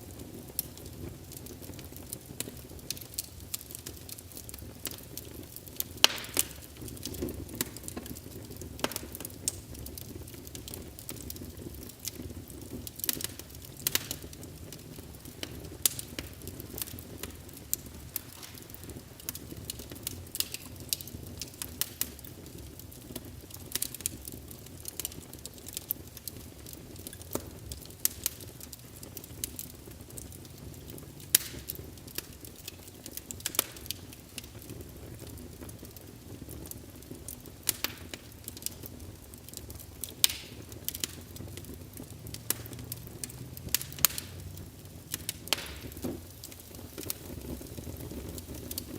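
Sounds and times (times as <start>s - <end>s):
fire crackling and popping: 0.0s - 48.9s
low rumble of flames: 0.0s - 48.9s.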